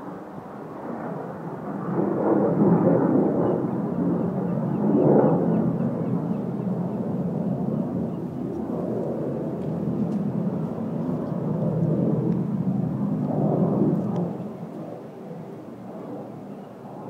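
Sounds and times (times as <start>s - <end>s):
jet flying past: 0.0s - 17.0s.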